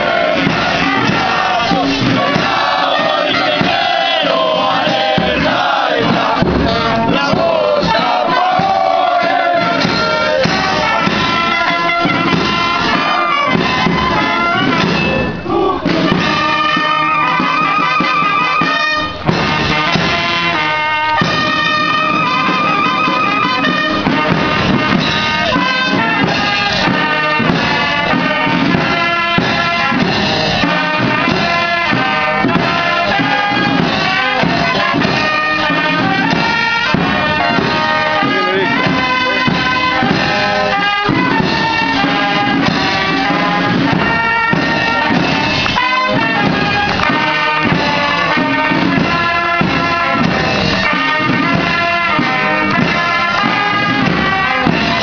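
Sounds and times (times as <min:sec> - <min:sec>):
military brass band playing: 0:00.0 - 0:55.0.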